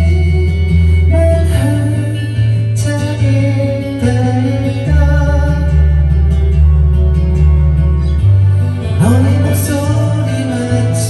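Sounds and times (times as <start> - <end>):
instrumental backing track: 0.0 - 11.0.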